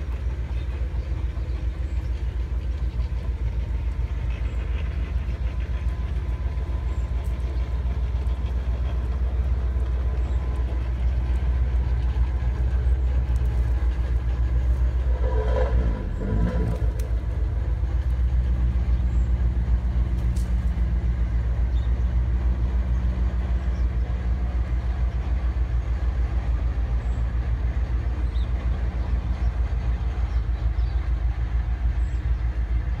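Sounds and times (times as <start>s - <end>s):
motor droning: 0.0s - 32.4s.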